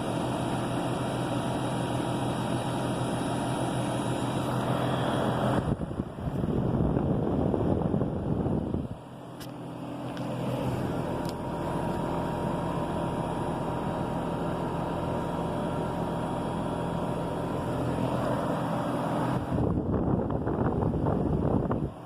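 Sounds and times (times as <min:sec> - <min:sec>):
heat pump humming: 0:00.0 - 0:22.0.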